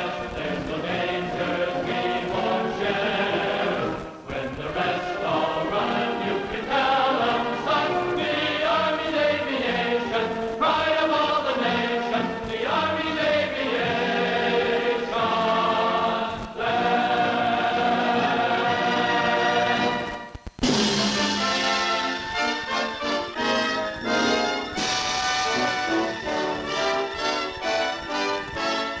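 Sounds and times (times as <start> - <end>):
choir singing held chords: 0.0 - 29.0.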